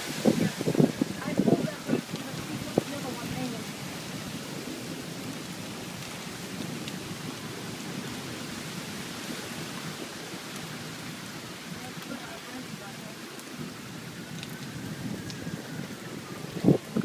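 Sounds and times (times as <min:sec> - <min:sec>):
steady rain hiss: 0:00.0 - 0:17.0
rain drop ticks: 0:00.5 - 0:17.0.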